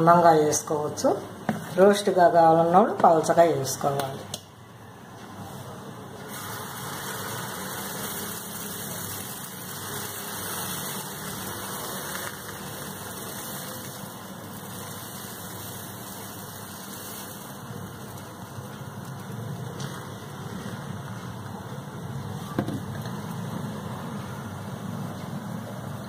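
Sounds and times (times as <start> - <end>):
kitchen rushing hum: 0.0 - 26.0.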